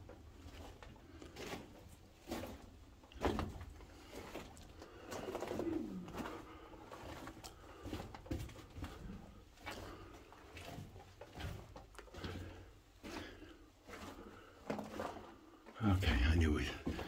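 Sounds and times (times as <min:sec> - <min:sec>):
footsteps on rock rubble: 0:00.0 - 0:17.0.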